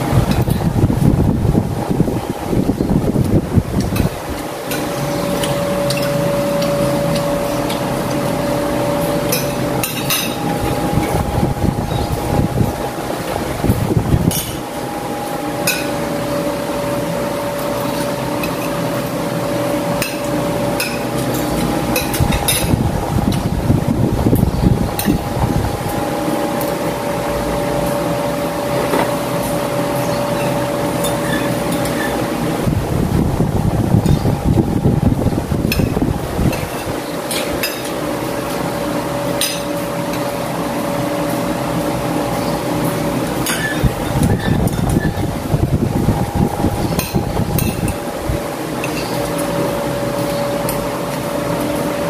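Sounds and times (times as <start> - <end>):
steady mechanical hum: 0.0 - 52.0.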